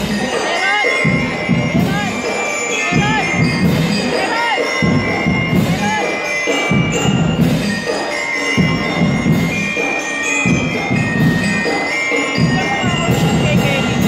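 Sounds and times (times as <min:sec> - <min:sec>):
band drums: 0:00.0 - 0:14.0
bell lyres ringing melody: 0:00.0 - 0:14.0.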